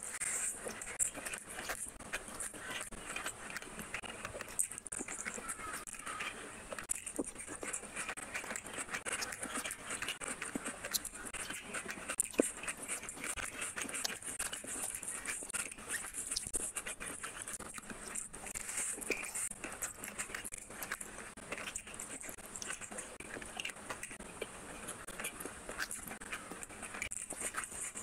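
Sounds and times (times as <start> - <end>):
wet chewing and lip-smacking: 0.0 - 28.0
fingers squelching saucy rice: 0.3 - 28.0.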